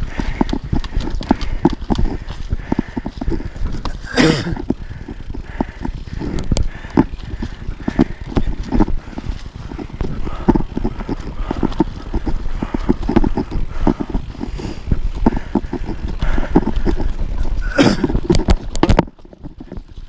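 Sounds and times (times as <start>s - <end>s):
bike rattles and knocks: 0.0s - 20.0s
bike tyres rumbling: 0.0s - 20.0s.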